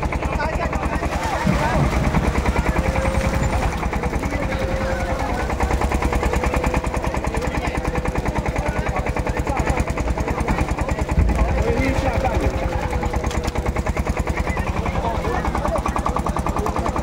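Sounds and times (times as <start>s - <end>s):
engine thumping steadily: 0.0s - 17.0s.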